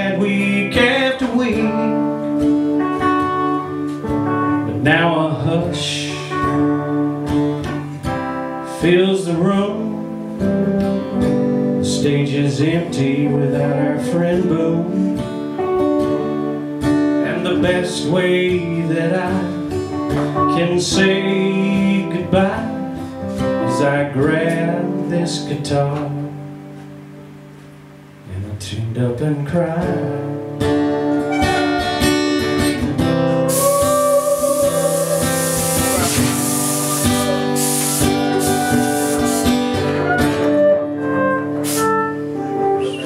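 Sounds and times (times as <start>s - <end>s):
electric lead guitar: 0.0s - 28.3s, 29.8s - 43.0s
acoustic guitar strumming: 0.0s - 43.0s.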